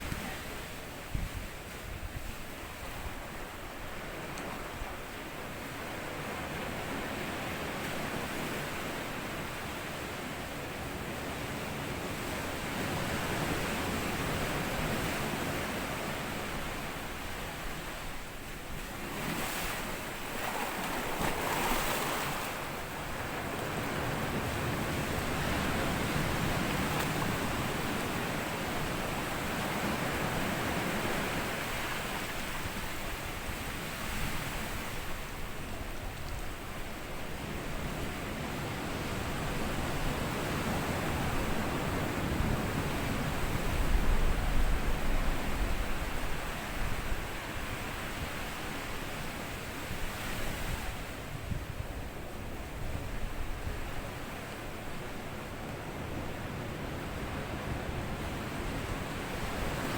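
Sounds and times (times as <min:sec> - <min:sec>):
sea waves on sandy beach: 0:00.0 - 0:59.9.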